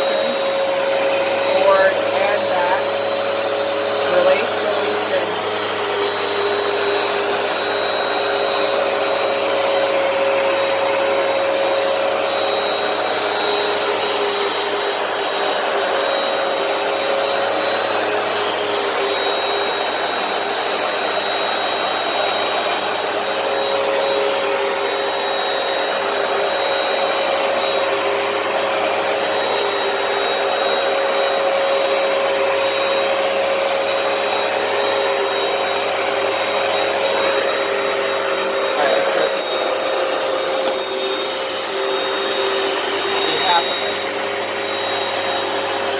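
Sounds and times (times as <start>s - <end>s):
carpet cleaner motor whine: 0.0s - 45.9s.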